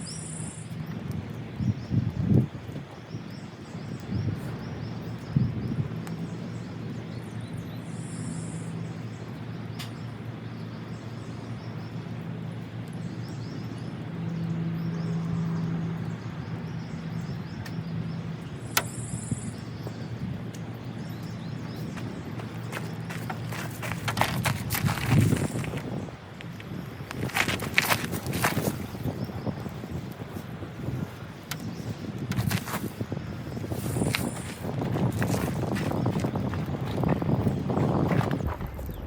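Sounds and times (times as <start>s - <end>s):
outdoor background noise: 0.0s - 39.0s.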